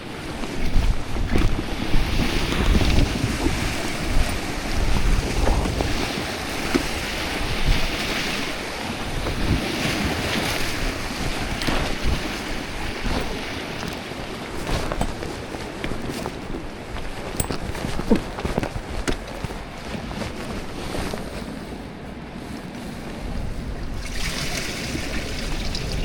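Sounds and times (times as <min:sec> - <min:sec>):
sea waves washing: 0:00.0 - 0:26.0
wind buffeting microphone: 0:00.0 - 0:26.0.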